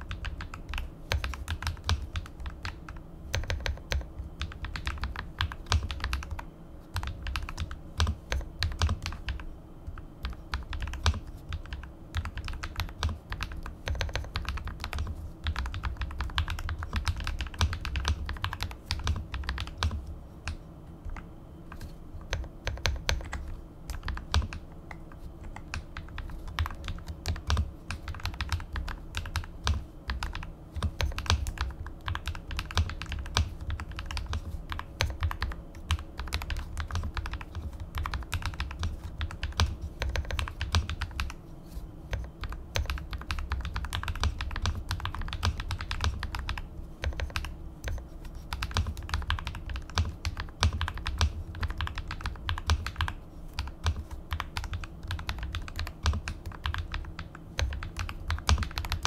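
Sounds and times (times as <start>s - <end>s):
mechanical keyboard typing: 0.0s - 41.4s, 42.1s - 59.0s.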